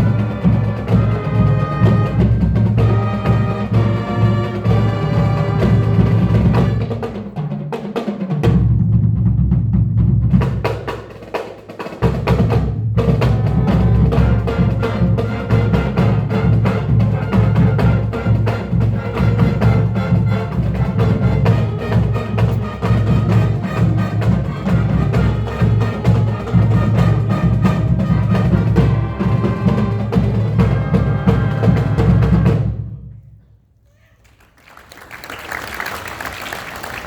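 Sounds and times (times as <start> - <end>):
marching band playing: 0.0 - 33.1.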